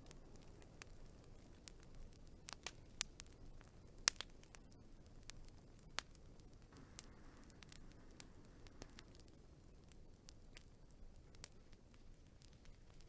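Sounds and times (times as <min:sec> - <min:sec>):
fire hissing: 0:00.0 - 0:13.0
wood fire crackling and popping: 0:00.0 - 0:13.0.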